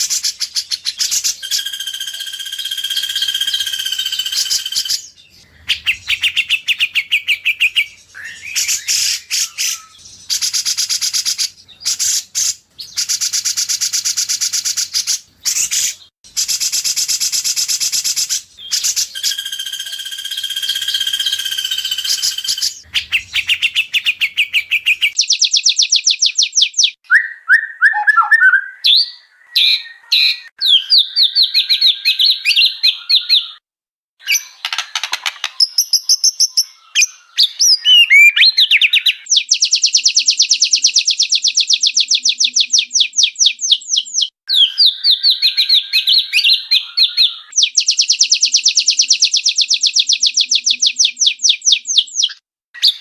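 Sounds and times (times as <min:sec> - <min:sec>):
bird singing trills and whistles: 0:00.0 - 0:33.6, 0:34.2 - 0:53.0.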